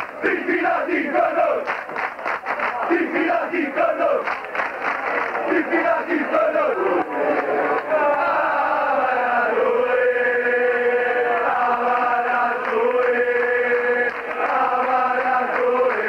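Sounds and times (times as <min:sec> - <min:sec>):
large crowd chanting in unison: 0:00.0 - 0:16.0.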